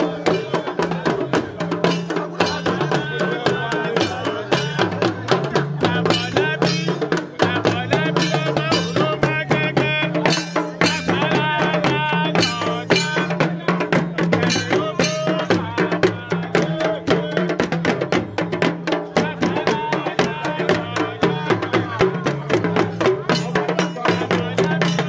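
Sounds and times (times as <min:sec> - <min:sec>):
fast dense percussion: 0:00.0 - 0:25.0
person singing: 0:00.0 - 0:25.0.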